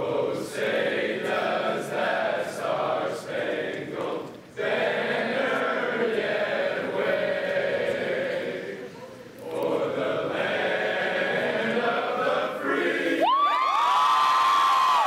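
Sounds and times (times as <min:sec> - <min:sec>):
boys singing an anthem unaccompanied: 0:00.0 - 0:13.3.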